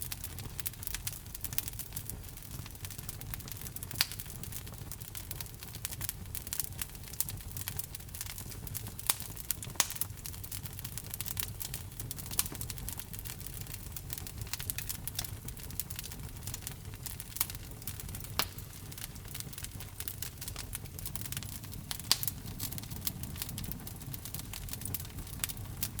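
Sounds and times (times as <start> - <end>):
sharp pops of fire: 0.0 - 26.0
wood fire crackling: 0.0 - 26.0.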